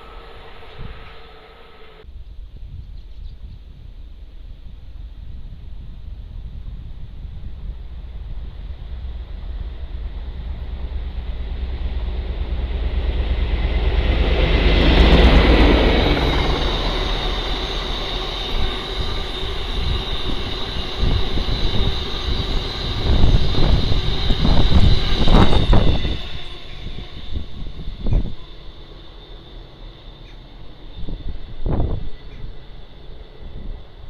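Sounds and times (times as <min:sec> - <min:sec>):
high whine: 0:00.0 - 0:02.1, 0:06.1 - 0:34.0
train rumble: 0:00.0 - 0:34.0.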